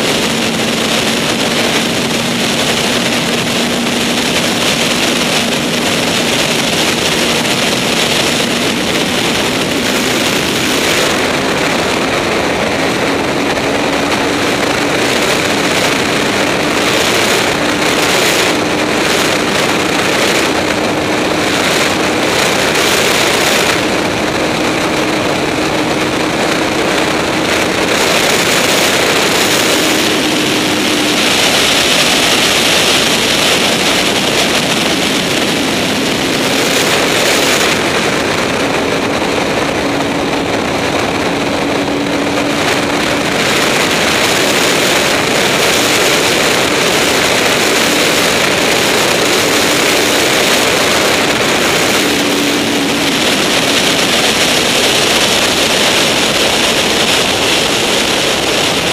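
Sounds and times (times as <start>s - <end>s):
motorcycle engine tone: 0.0s - 58.9s
wind rushing over microphone: 0.0s - 58.9s.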